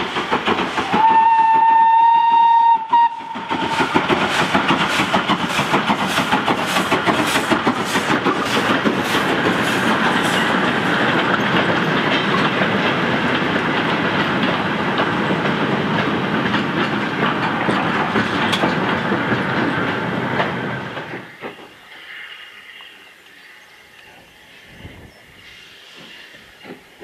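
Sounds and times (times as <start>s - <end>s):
train wheels clattering over rails: 0.0s - 23.4s, 24.6s - 27.0s
distant steam hiss: 0.0s - 27.0s.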